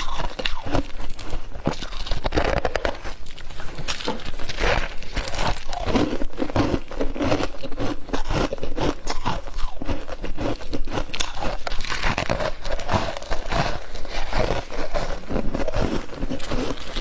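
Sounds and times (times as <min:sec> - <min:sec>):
chewing frost crunching: 0:00.0 - 0:17.0.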